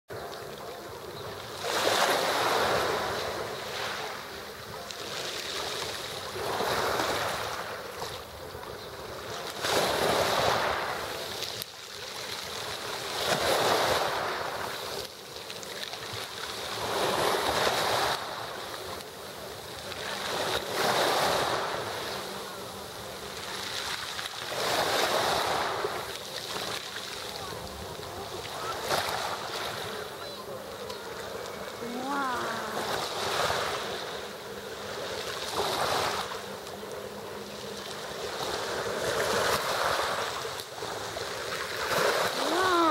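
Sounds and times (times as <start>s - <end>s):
waves breaking: 0.1s - 42.9s.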